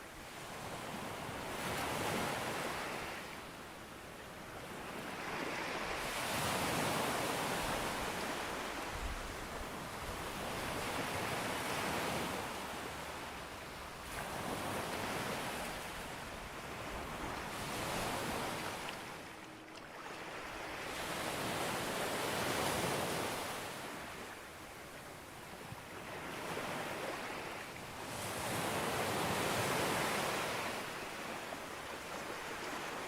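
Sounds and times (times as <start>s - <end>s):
waves breaking on beach: 4.8s - 24.6s, 25.2s - 33.0s.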